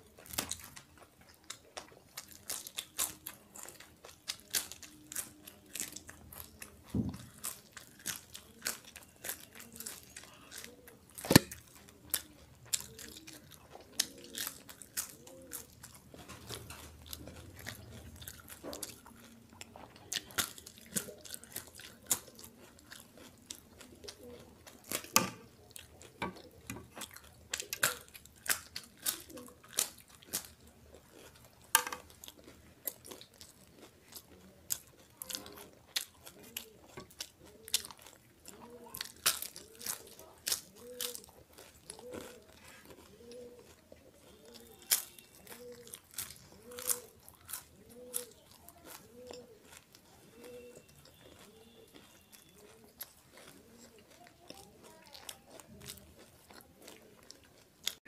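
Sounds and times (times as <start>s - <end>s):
crunching and chewing brittle: 0.0s - 58.0s.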